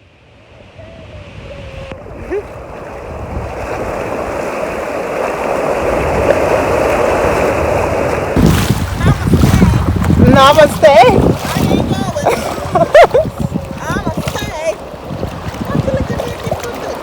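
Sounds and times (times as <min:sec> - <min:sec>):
ocean surf washing on beach: 0:00.0 - 0:17.0.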